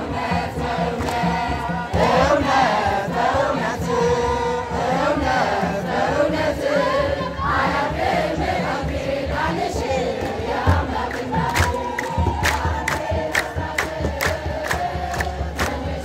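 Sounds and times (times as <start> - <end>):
group singing a chant: 0.0 - 16.0
steady drum beat: 0.0 - 16.0.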